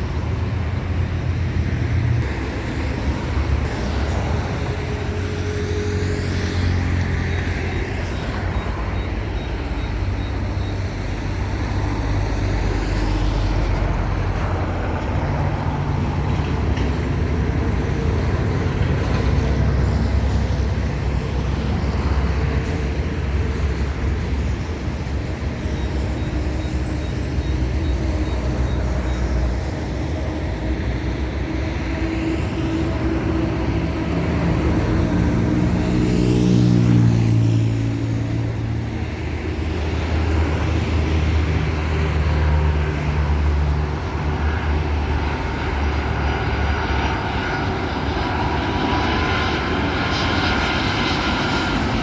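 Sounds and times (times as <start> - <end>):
heavy road traffic passing: 0.0 - 52.0.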